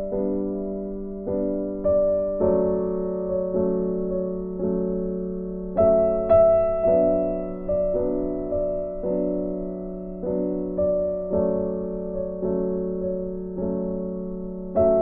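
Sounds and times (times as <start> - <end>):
soft piano-like keyboard chords: 0.0 - 15.0.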